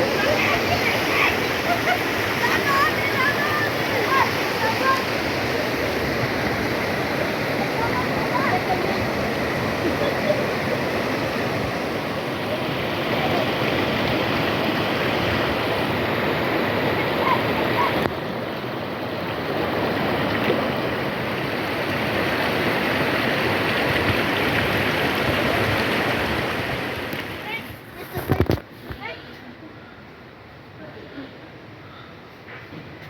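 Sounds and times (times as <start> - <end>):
stream water rushing: 0.0 - 28.7.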